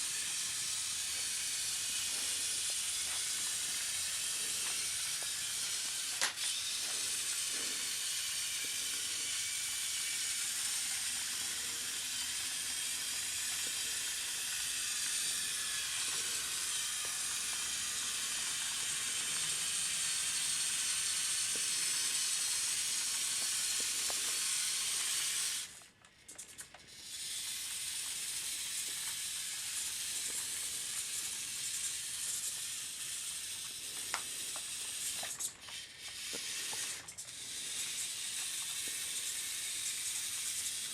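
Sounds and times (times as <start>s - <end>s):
model truck motor whirring: 0.0s - 40.9s.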